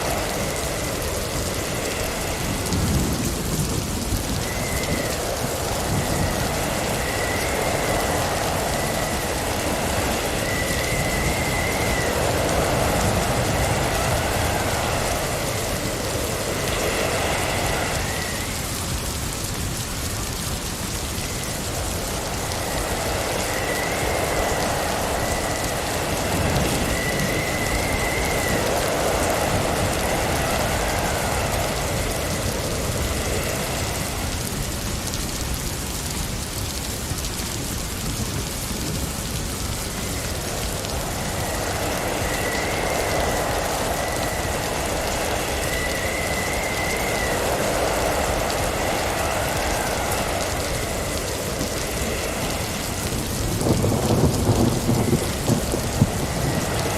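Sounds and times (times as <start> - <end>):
high wind whistle: 0.0 - 56.9
hiss of driven snow: 0.0 - 56.9
wind gusting: 0.0 - 56.9.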